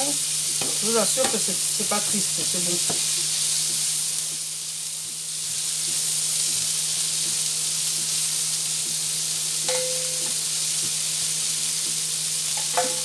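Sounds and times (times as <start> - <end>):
onions sizzling in a frying pan: 0.0 - 13.0.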